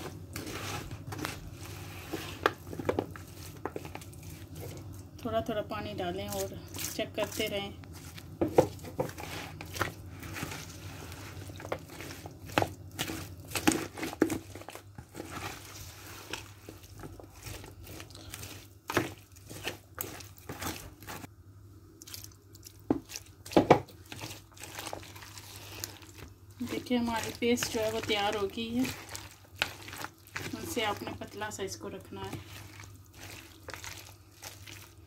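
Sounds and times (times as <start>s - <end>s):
spatula squelching in batter: 0.0s - 5.4s, 6.0s - 21.3s, 22.0s - 35.0s.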